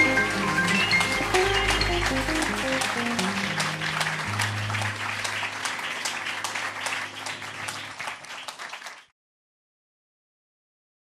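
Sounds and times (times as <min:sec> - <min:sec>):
audience clapping: 0:00.0 - 0:09.1.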